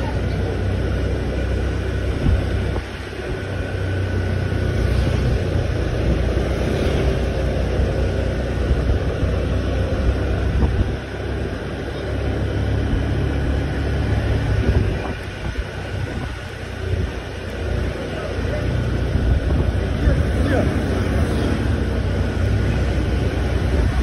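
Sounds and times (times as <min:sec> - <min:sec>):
road noise: 0:00.0 - 0:24.0
scooter engine: 0:00.0 - 0:24.0
wind rumbling on microphone: 0:00.0 - 0:24.0.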